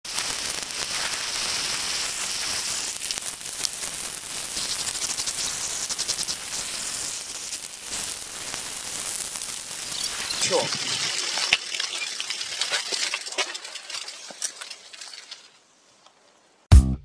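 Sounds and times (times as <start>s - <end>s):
bike tyre hiss on gritty road: 0.1s - 15.7s.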